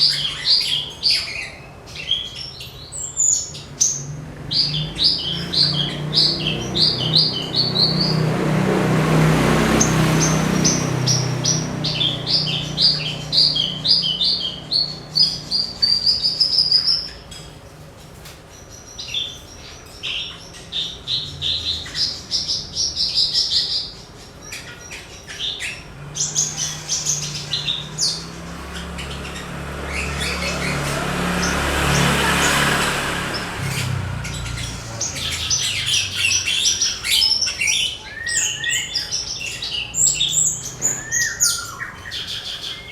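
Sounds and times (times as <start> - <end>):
bird chirping and trilling: 0.0 - 17.8, 18.5 - 42.9.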